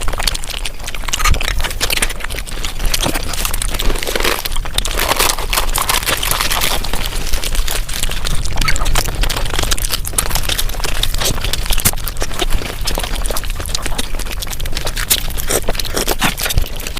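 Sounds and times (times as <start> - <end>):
fast crunching and chewing: 0.0 - 16.9.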